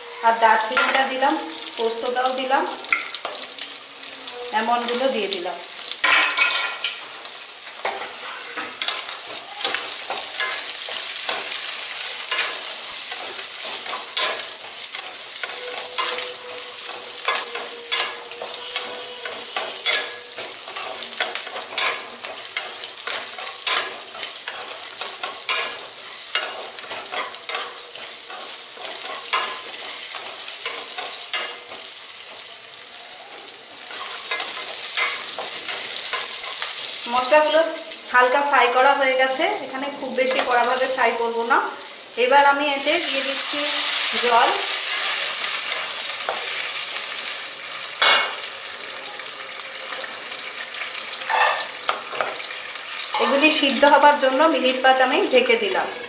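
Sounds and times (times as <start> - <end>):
spices sizzling in hot oil: 0.0 - 56.0.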